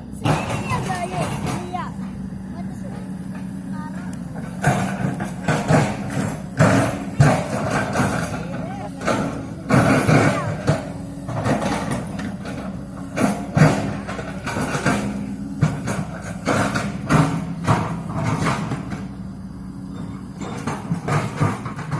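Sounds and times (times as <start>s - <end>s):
diesel engine running: 0.0s - 21.9s
machinery knocks and clanks: 0.0s - 21.9s.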